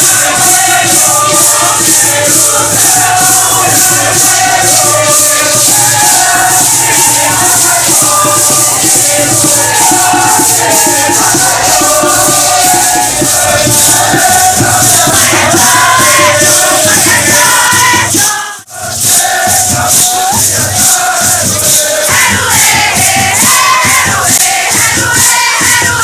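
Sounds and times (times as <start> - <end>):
group of voices chanting: 0.0 - 26.0
maracas shaken in a beat: 0.0 - 26.0.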